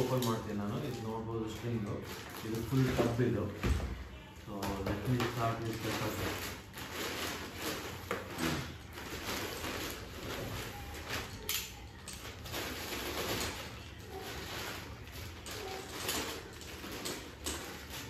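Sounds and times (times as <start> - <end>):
plastic bag rustling and crinkling: 0.0 - 18.0.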